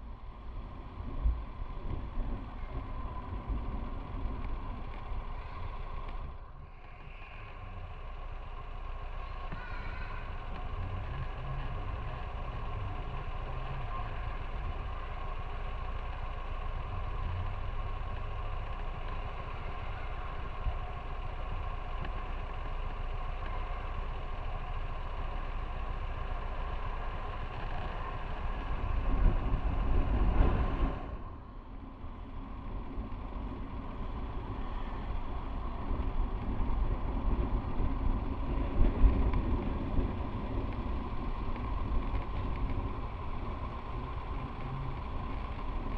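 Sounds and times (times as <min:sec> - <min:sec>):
motorcycle engine: 0:00.0 - 0:45.9
road noise: 0:00.0 - 0:45.9.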